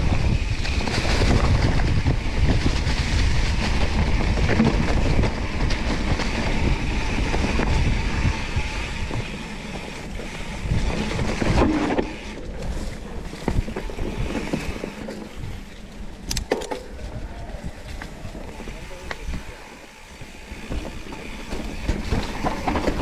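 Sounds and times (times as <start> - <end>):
bike clacking and rattling: 0.0 - 23.0
tyres rumbling over dirt: 0.0 - 23.0
wind rush: 0.0 - 23.0.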